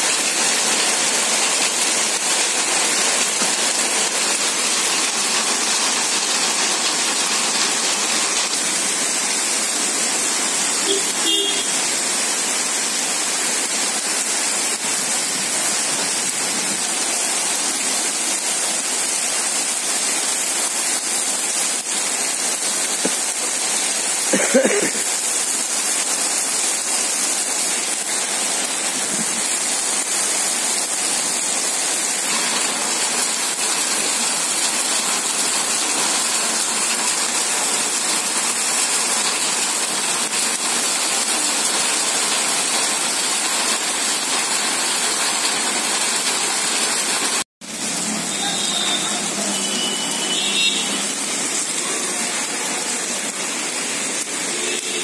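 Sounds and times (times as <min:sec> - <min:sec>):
heavy rain on concrete: 0:00.0 - 0:55.0.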